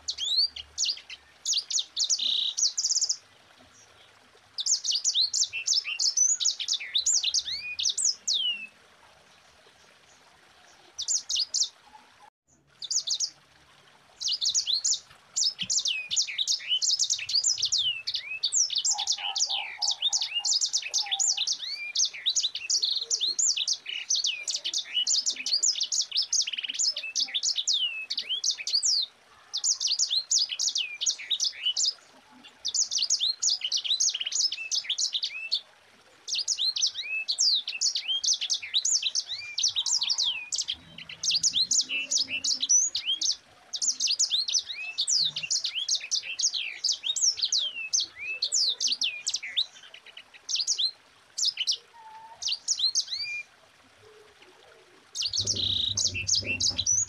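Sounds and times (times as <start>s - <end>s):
finch singing high chirps: 0.0s - 3.2s, 4.6s - 8.8s, 11.0s - 11.8s, 12.8s - 13.3s, 14.2s - 35.6s, 36.3s - 54.2s, 55.1s - 57.0s.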